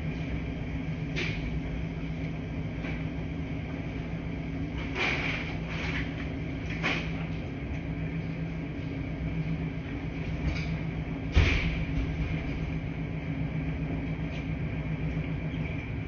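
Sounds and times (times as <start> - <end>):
washing machines humming: 0.0 - 16.0.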